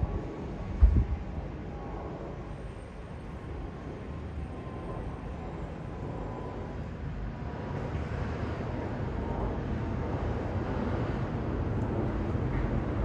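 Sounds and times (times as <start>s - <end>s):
jet airliner rumble overhead: 0.0s - 13.0s.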